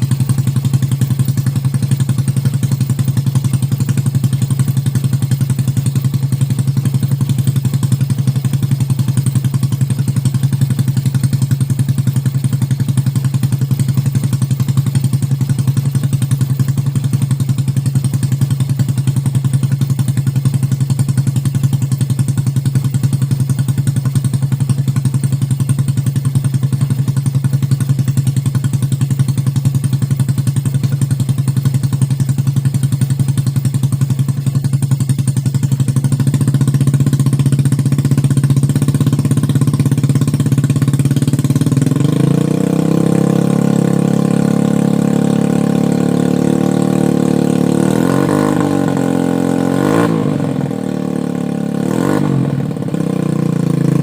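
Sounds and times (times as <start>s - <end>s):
motorcycle engine chugging: 0.0s - 54.0s.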